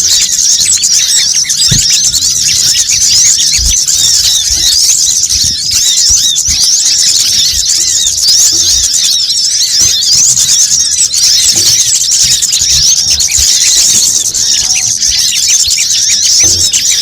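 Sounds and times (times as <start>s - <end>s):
songbirds chirping chorus: 0.0s - 17.0s.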